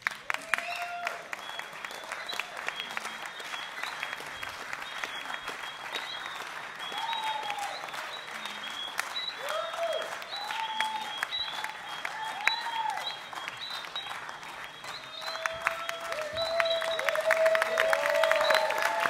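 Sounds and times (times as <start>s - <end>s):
audience clapping: 0.0s - 19.0s
cheers: 0.0s - 19.0s.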